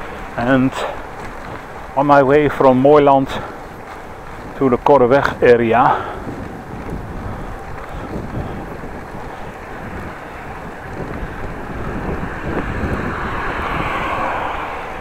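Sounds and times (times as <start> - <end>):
passing car tyre noise: 0.0 - 15.0
wind rumbling on microphone: 0.0 - 15.0.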